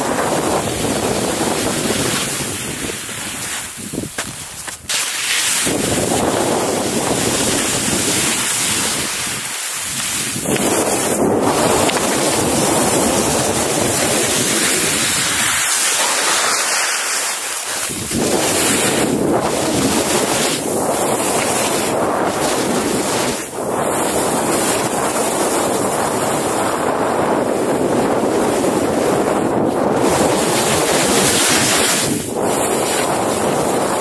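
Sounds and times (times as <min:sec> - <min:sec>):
wind buffeting microphone: 0:00.0 - 0:15.8, 0:17.8 - 0:34.0
skis scraping through slushy snow: 0:00.0 - 0:34.0.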